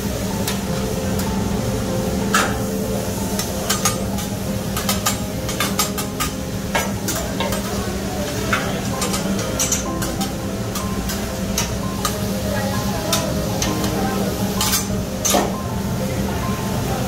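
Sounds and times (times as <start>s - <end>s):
food sizzling on hot steel: 0.0s - 17.0s.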